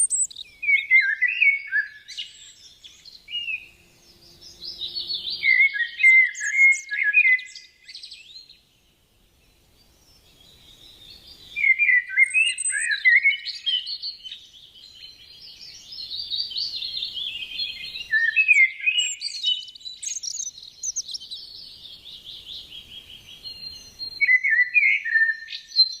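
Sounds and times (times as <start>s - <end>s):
birds chirping and singing: 0.0s - 26.0s.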